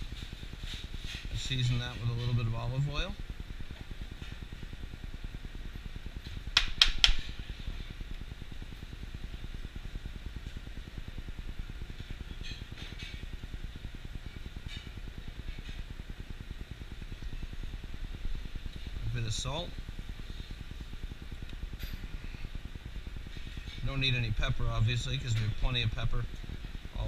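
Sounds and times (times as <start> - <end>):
low kitchen hum: 0.0 - 27.0.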